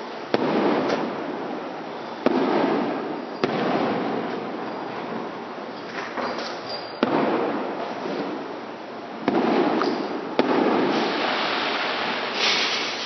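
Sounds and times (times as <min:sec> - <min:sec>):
firework shells bursting: 0:00.0 - 0:08.6, 0:09.2 - 0:13.0.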